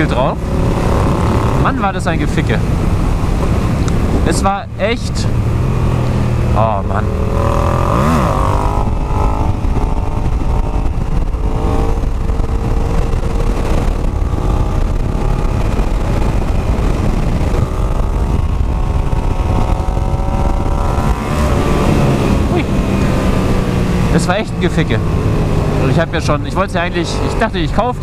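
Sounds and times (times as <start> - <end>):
motorcycle engine at speed: 0.0 - 28.0
wind noise on microphone: 0.0 - 28.0.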